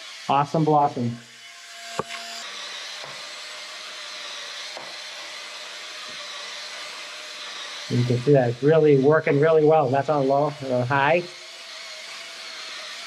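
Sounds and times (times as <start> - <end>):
spin scrubber motor hum: 0.0 - 13.0.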